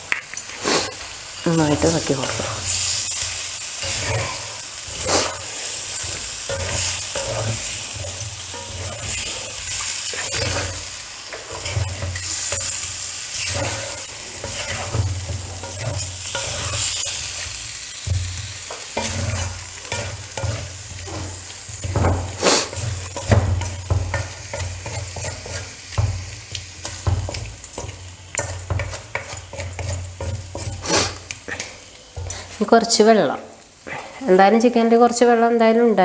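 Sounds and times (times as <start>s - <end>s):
spatula scraping and knocking pan: 0.0s - 33.0s
food sizzling in a pan: 0.0s - 36.0s.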